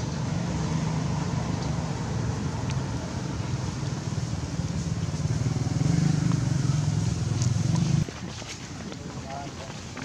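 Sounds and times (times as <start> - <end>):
outdoor background: 0.0 - 10.0.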